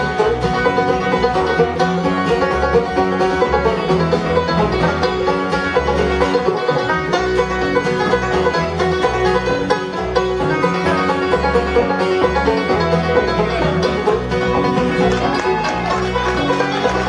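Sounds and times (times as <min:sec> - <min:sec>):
acoustic guitar: 0:00.0 - 0:17.0
banjos picking: 0:00.0 - 0:17.0.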